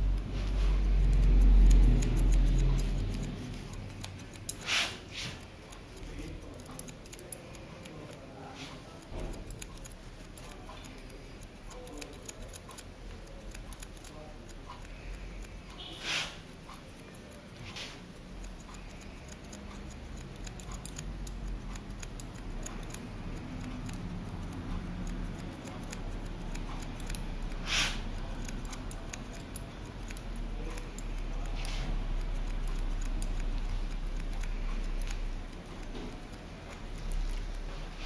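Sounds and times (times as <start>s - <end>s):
scissors snipping hair: 0.0s - 38.0s.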